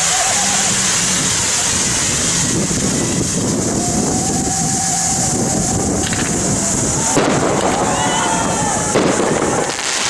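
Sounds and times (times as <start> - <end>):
fireworks bursts rumbling: 0.0 - 10.0.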